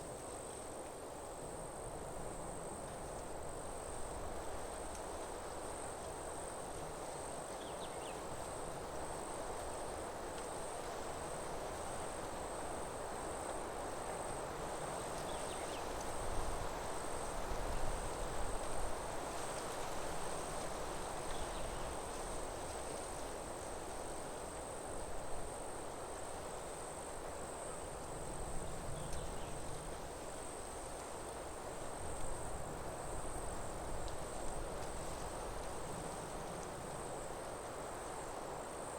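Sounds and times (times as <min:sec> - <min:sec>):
outdoor hiss: 0:00.0 - 0:38.9
insects trilling: 0:01.4 - 0:38.9.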